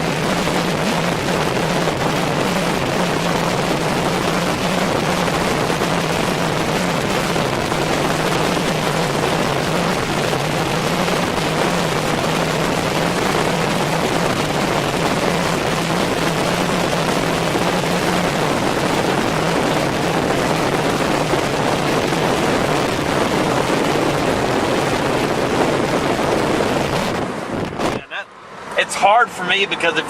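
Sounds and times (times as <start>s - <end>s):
car rushing noise: 0.0s - 30.0s
constant low hum: 0.0s - 30.0s.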